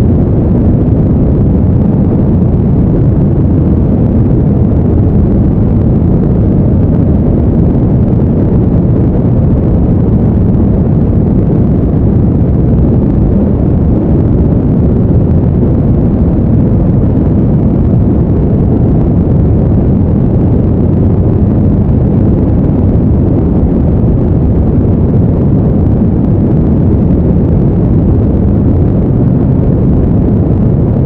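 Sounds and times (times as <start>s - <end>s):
steady deep brown noise: 0.0s - 31.0s.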